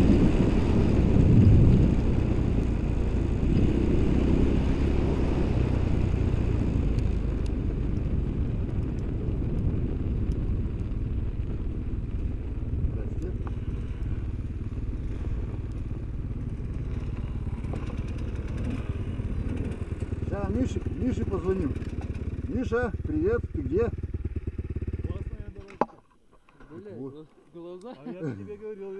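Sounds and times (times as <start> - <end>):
vehicle engine rumbling: 0.0 - 28.9.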